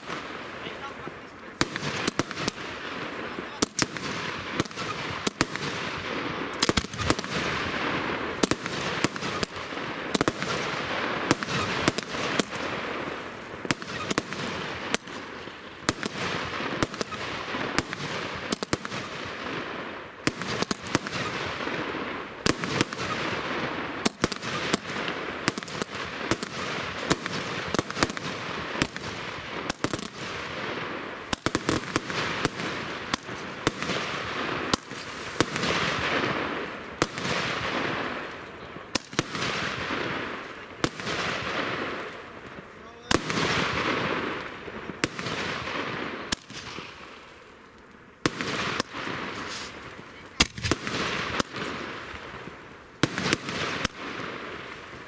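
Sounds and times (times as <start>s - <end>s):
fireworks bangs: 0.0s - 55.0s
fireworks hiss: 0.0s - 55.0s.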